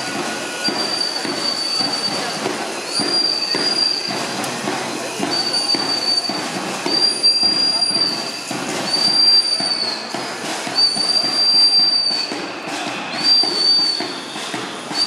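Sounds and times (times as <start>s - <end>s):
marching crowd shuffle and chatter: 0.0s - 15.0s
shrill whistle blasts: 0.0s - 15.0s.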